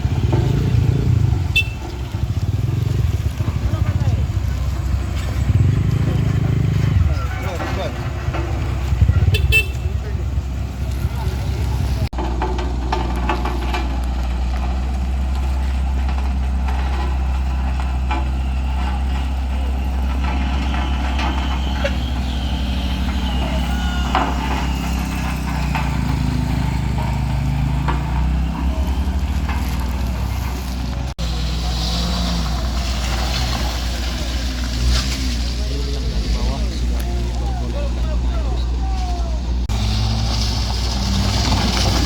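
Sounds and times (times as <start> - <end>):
road vehicle engines running: 0.0 - 42.0
truck engine: 0.0 - 42.0.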